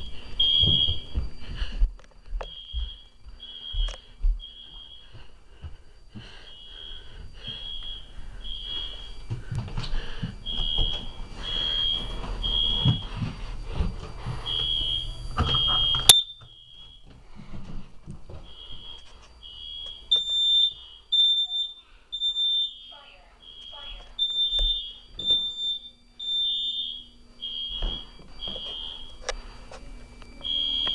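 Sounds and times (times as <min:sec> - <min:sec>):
smoke alarm beeping: 0:00.0 - 0:30.9.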